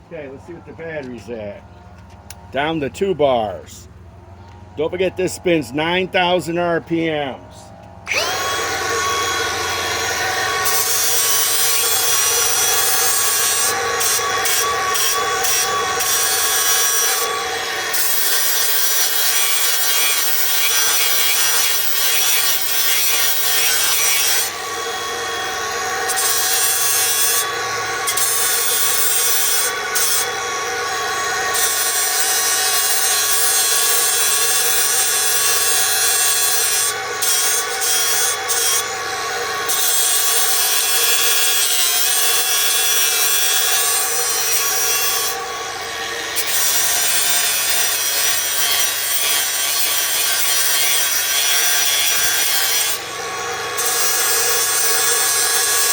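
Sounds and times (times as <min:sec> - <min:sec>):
angle grinder motor whine: 0:00.3 - 0:55.9.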